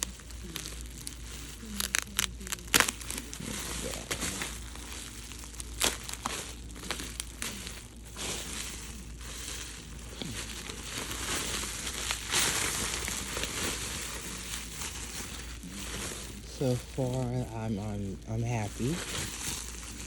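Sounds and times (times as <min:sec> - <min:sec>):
packaging crinkling and tearing: 0:00.0 - 0:17.2, 0:18.6 - 0:20.0.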